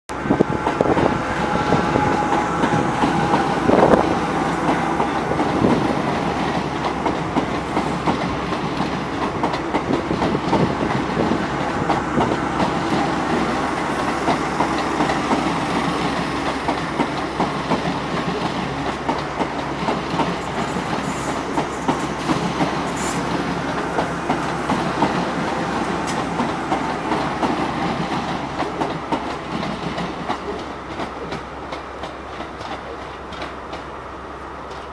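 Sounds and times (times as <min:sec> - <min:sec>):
train rumbling past: 0:00.1 - 0:34.9.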